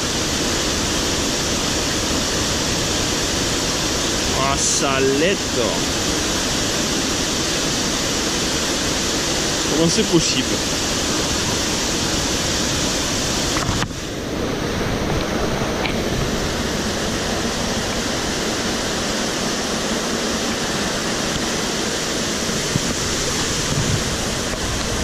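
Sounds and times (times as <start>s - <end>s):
mountain stream rushing: 0.0s - 25.0s.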